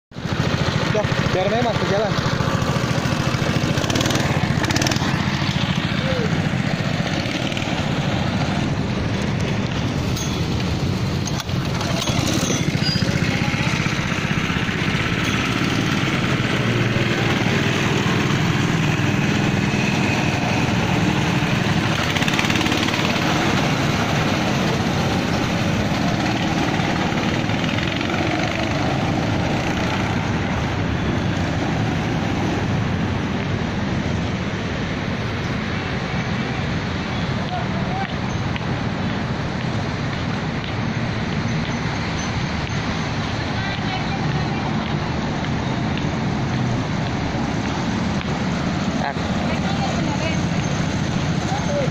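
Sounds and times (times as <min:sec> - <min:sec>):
go-kart engines running: 0:00.1 - 0:51.9.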